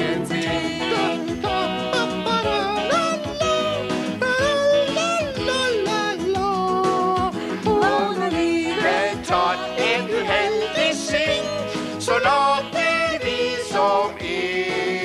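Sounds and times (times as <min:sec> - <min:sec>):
instrumental accompaniment: 0:00.0 - 0:15.0
man singing: 0:00.0 - 0:15.0
puppet character singing: 0:00.0 - 0:15.0.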